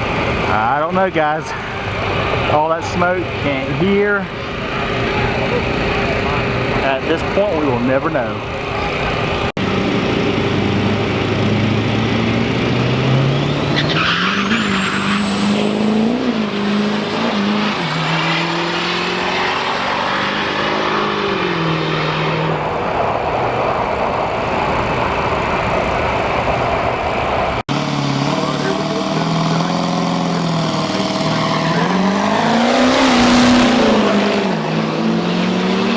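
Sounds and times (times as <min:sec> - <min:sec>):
diesel truck engines revving: 0:00.0 - 0:35.9.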